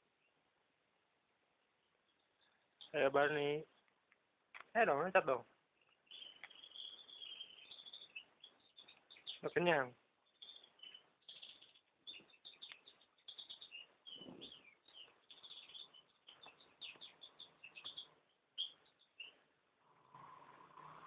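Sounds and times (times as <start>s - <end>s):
birds chirping: 1.2s - 21.0s.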